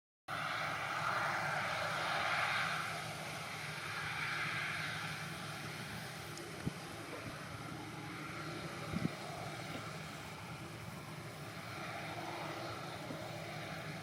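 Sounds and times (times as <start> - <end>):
combine harvester hiss and drone: 0.3 - 14.0.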